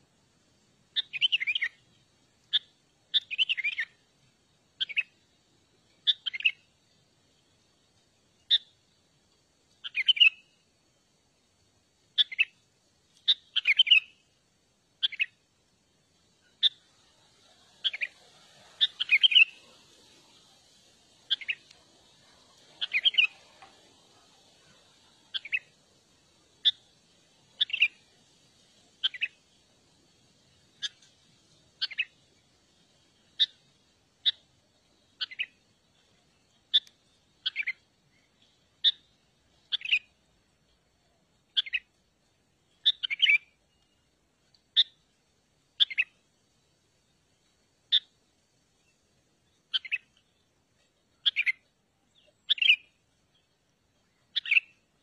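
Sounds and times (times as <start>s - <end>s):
faint steady hiss: 0.0s - 55.0s
songbird chirping: 0.0s - 55.0s.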